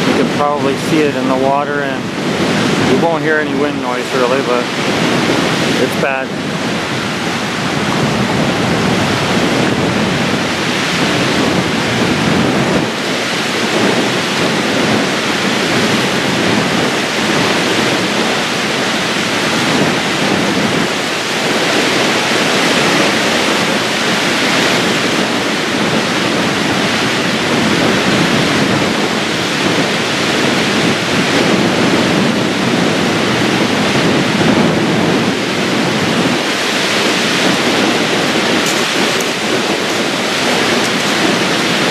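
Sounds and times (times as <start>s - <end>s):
choppy water washing on rocks: 0.0s - 41.9s
strong wind: 0.0s - 41.9s.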